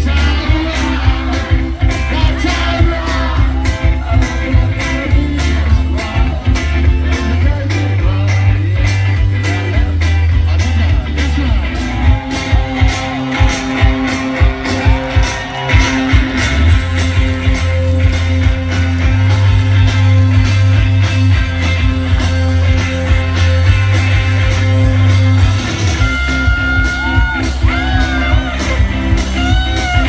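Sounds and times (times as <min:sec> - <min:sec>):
electric guitars: 0:00.0 - 0:30.0
heavy bass: 0:00.0 - 0:30.0
steady drum beat: 0:00.0 - 0:30.0.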